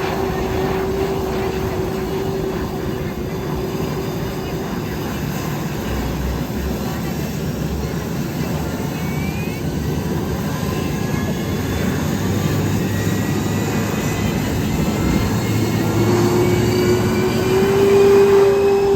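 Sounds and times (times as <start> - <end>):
jet engines rumbling and whining: 0.0 - 18.9.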